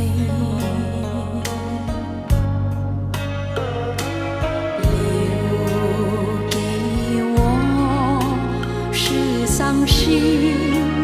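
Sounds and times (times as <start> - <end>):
slow pop ballad: 0.0 - 11.0.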